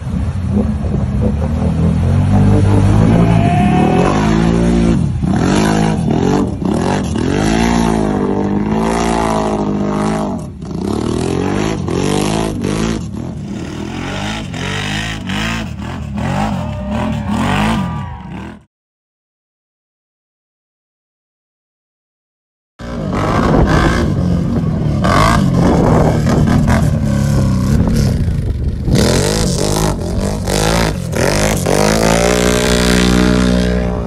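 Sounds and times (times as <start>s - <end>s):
atv engine revving hard: 0.2s - 18.7s, 22.8s - 34.0s.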